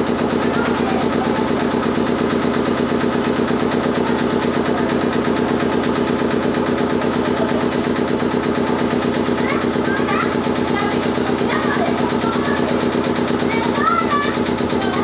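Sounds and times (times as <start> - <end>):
train machinery pulsing: 0.0 - 15.0.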